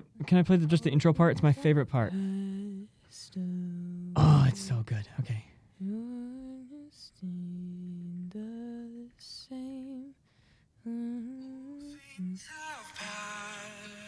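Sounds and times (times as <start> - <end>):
person singing slow song: 0.8 - 4.8, 5.8 - 10.2, 10.8 - 14.0.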